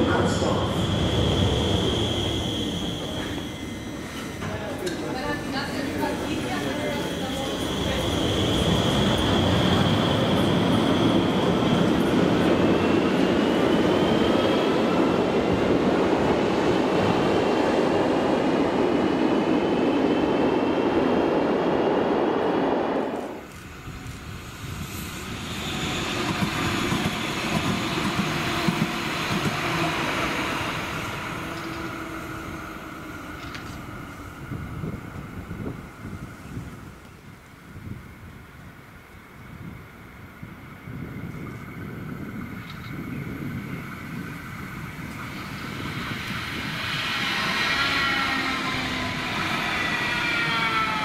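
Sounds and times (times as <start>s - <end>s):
tram passing: 0.0s - 51.0s
tram rumbling and motor whine: 0.0s - 51.0s.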